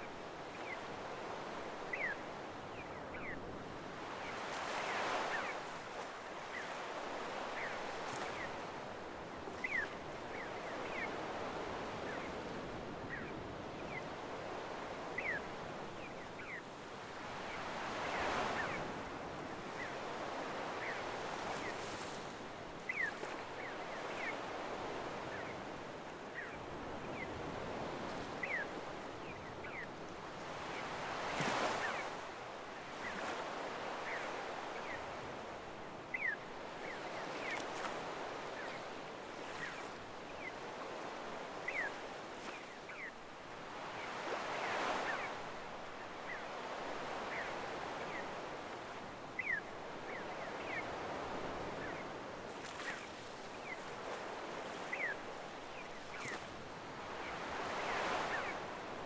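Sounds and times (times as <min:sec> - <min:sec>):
waves washing on beach: 0:00.0 - 0:59.0.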